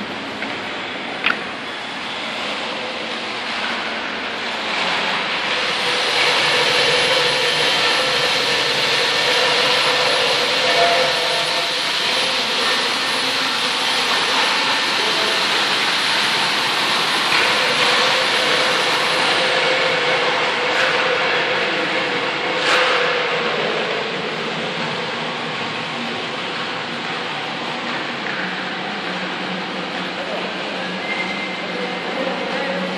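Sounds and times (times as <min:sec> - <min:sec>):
drum mixer churning mortar: 0:00.0 - 0:32.9.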